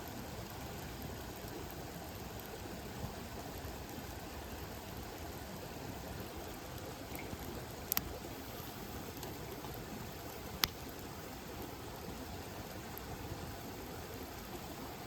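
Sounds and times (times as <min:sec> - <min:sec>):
campfire crackles and pops: 0:00.0 - 0:08.3, 0:09.0 - 0:14.5
campfire hissing: 0:00.0 - 0:15.0.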